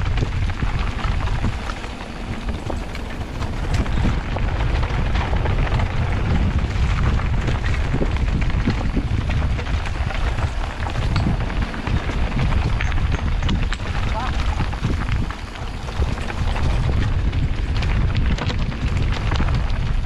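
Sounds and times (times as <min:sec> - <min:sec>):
bike clicks and rattles: 0:00.0 - 0:20.0
tyres on dirt and gravel: 0:00.0 - 0:20.0
wind rumble on microphone: 0:00.0 - 0:20.0.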